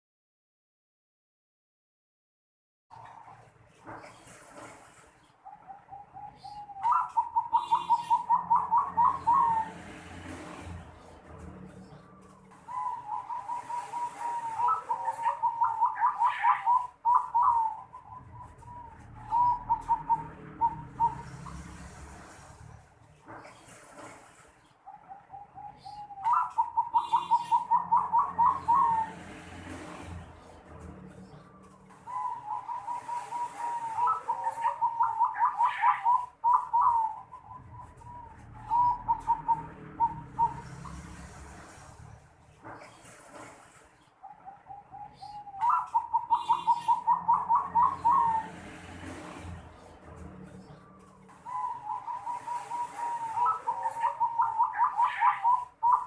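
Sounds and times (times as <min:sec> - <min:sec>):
dove cooing: 0:05.4 - 0:22.7, 0:24.9 - 0:42.1, 0:44.2 - 0:56.0.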